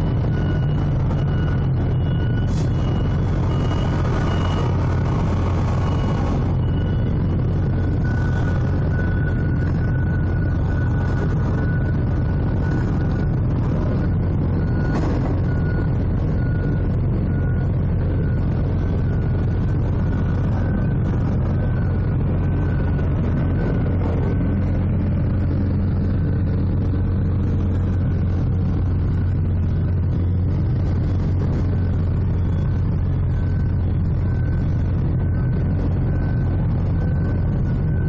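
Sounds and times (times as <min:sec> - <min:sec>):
low engine drone: 0:00.0 - 0:38.0.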